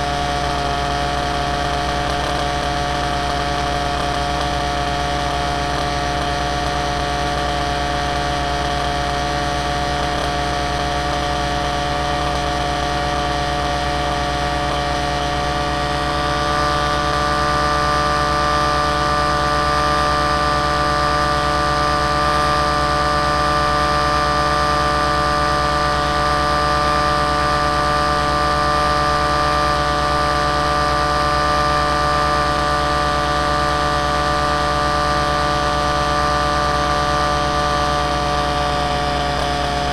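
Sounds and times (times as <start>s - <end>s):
aircraft engine hum: 0.0s - 39.9s.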